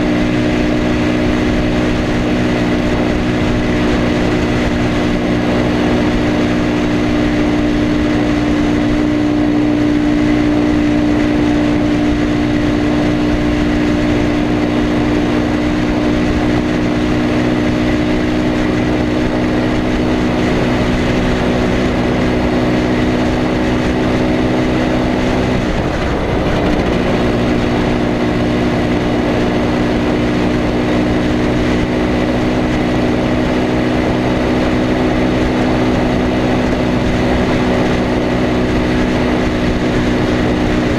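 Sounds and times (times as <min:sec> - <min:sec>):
two-stroke motorcycle engine running: 0:00.0 - 0:40.9.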